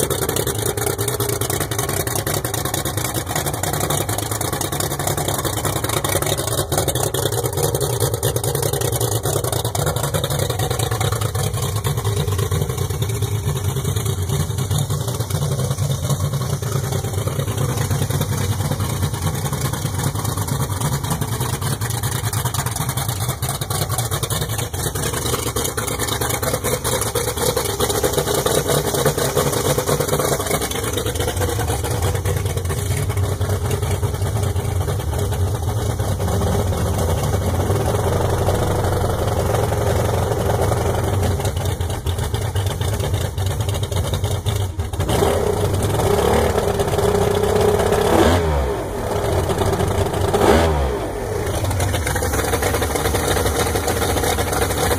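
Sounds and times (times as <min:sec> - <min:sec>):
outboard motor idling and revving: 0:00.0 - 0:54.9.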